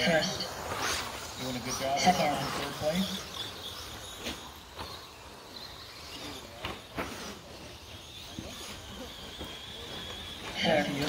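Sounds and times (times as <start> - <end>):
rc trucks running on dirt: 0.0 - 11.0.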